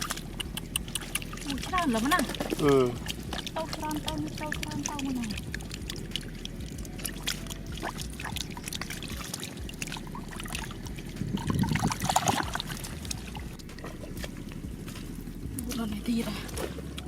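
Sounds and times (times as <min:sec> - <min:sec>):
muddy water splashing: 0:00.0 - 0:17.0.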